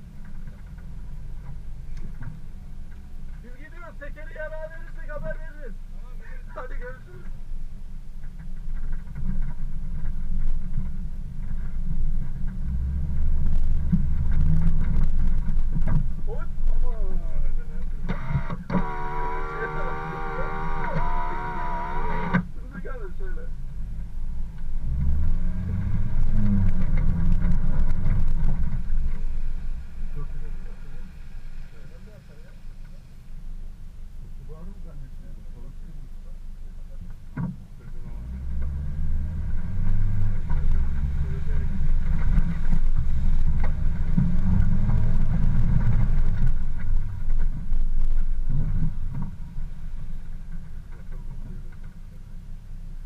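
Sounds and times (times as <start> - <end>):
off-road vehicle engine under load: 0.0 - 53.0.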